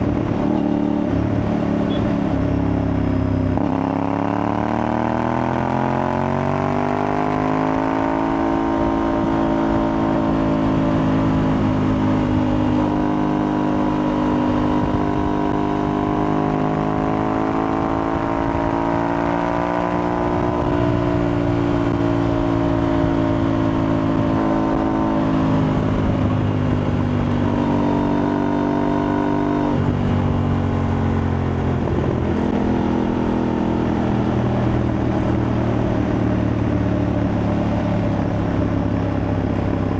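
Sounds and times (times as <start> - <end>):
motorcycle engine running: 0.0 - 4.8, 5.4 - 39.9.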